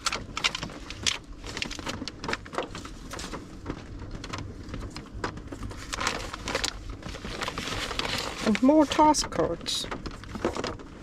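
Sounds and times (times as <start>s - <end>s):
paper cards rustling: 0.0s - 11.0s.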